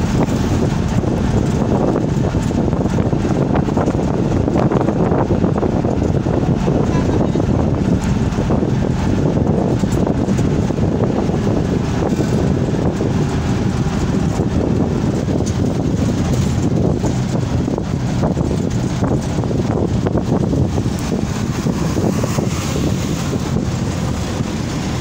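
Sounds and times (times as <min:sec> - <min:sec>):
vehicle road and engine noise: 0:00.0 - 0:25.0
wind buffeting microphone: 0:00.0 - 0:25.0.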